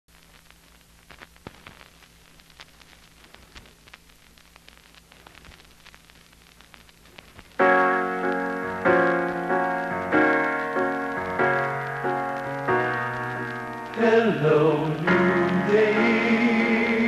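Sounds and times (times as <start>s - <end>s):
record crackles and pops: 0.0s - 17.0s
record surface hiss: 0.0s - 17.0s.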